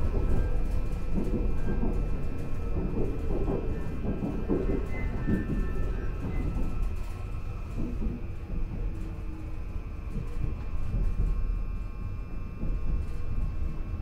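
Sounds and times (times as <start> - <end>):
high train whine: 0.0 - 14.0
train wheels rumbling on rails: 0.0 - 14.0.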